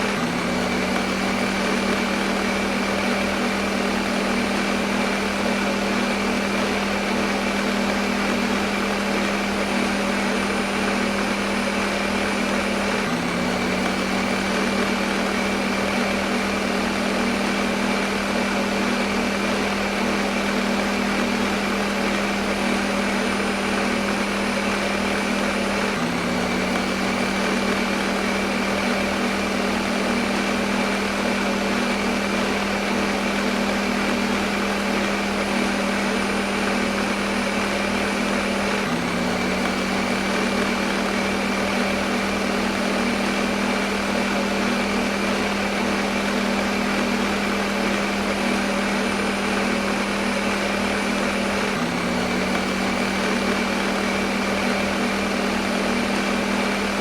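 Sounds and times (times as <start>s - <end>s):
blender motor whirring: 0.0s - 57.0s.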